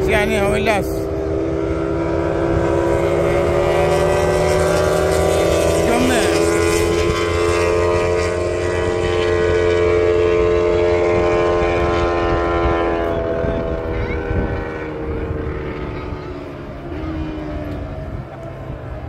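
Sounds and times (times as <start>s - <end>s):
racing motorcycle engines: 0.0s - 19.0s.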